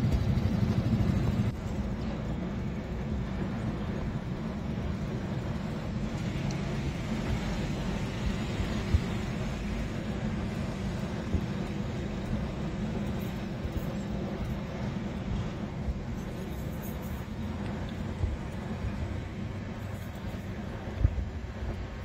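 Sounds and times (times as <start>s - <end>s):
distant freight train rumble: 0.0s - 22.0s.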